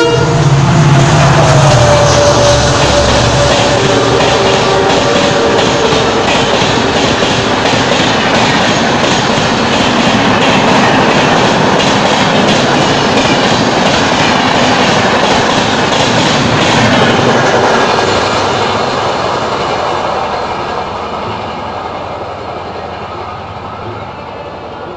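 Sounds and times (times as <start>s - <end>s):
train passing at high speed: 0.0s - 24.9s
wheels clattering on rails: 1.0s - 24.8s.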